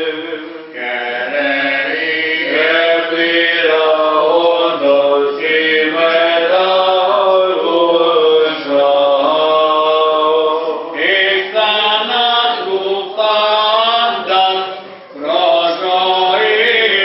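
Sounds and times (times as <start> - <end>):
voices chanting long held notes: 0.0 - 17.0.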